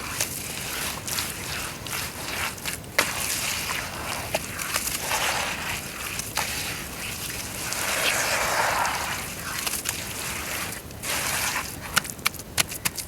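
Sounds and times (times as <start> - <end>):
dirt crumbling in water: 0.0 - 13.0.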